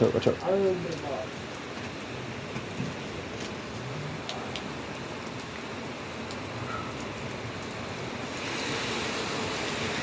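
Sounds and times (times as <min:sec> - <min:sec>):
steady rain: 0:00.0 - 0:10.0.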